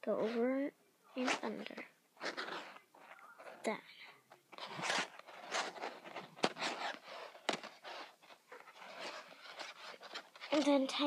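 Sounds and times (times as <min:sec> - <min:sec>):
plastic strands rustling and scraping: 0:01.1 - 0:11.0.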